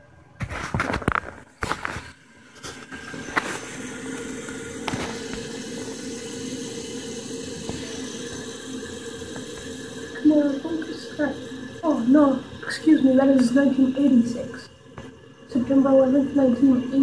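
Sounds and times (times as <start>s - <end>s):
faint steady hum: 0.0s - 17.0s
toilet tank refilling hiss: 0.4s - 17.0s.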